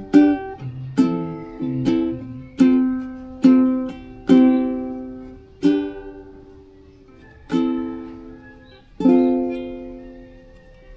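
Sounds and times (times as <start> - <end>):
ukulele strums: 0.0 - 10.9.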